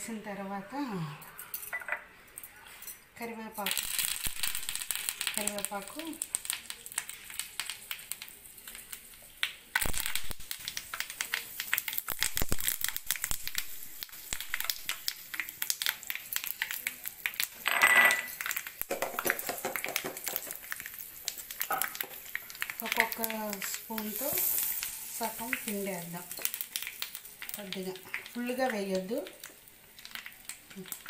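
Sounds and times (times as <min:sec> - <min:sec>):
seeds popping in hot oil: 0:03.6 - 0:31.0.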